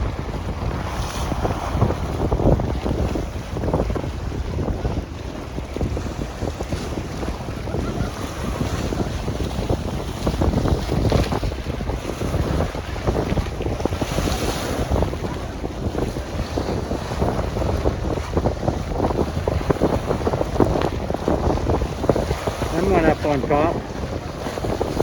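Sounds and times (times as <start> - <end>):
waves splashing against a pier: 0.0 - 25.0
wind buffeting microphone: 0.0 - 25.0.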